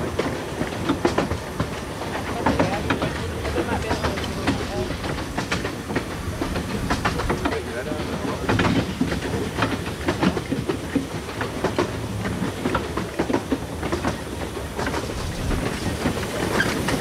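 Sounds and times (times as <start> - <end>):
train rumbling on track: 0.0 - 17.0
wheels clacking on rails: 0.0 - 17.0.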